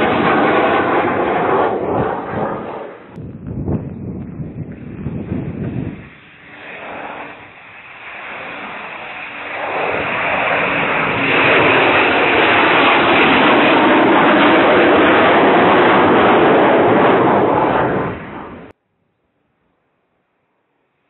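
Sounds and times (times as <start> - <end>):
aircraft roaring overhead: 0.0 - 18.8.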